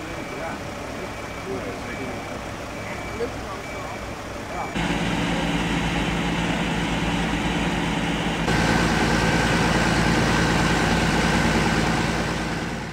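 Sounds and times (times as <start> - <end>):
fire engine idling: 0.0 - 12.9.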